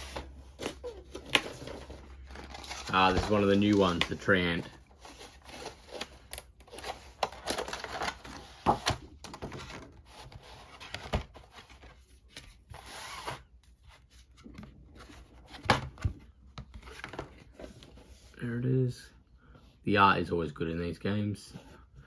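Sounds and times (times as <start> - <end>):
cardboard box rustling and scraping: 0.0 - 18.4.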